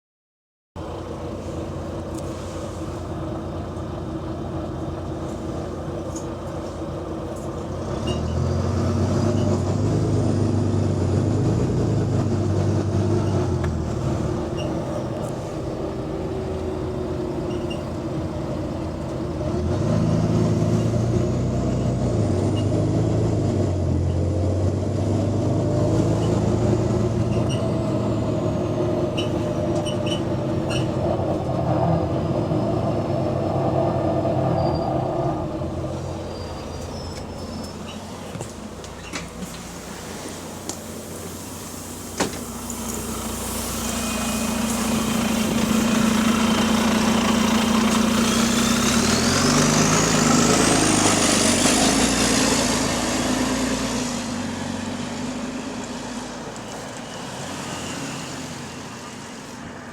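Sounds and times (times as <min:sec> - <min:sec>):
diesel bus engine accelerating: 0:00.8 - 0:59.9.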